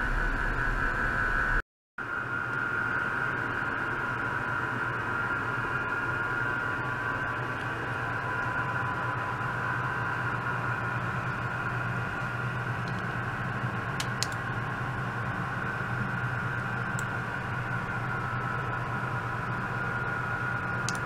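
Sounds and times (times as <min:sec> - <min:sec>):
electronics hum and hiss: 0:00.0 - 0:21.0
high whine: 0:00.0 - 0:21.0.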